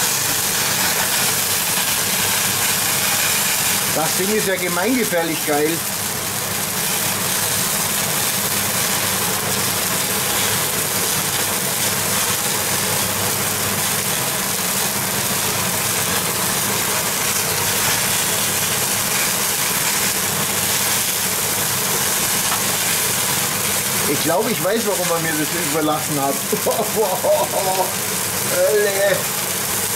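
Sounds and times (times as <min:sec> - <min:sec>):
range hood fan running: 0:00.0 - 0:29.9.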